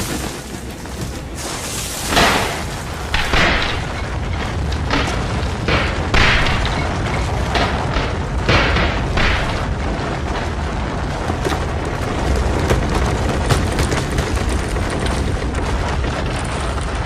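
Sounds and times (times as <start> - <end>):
heavy rumble: 0.0 - 17.0
loud crashes and thuds: 0.0 - 17.0.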